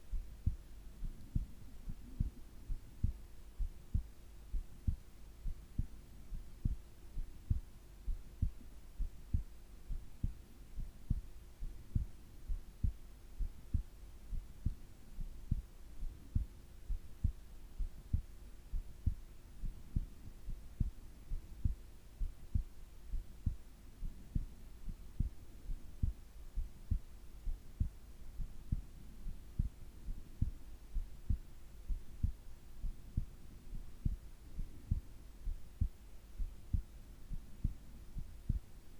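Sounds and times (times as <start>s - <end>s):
heartbeat thumps: 0.0s - 38.8s
faint steady hum: 0.0s - 38.9s.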